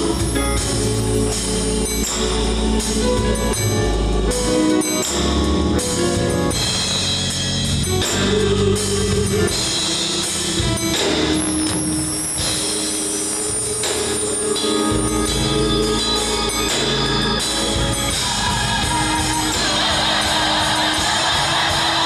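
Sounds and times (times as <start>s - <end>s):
drums and cymbals: 0.0s - 22.0s
live gospel band: 0.0s - 22.0s.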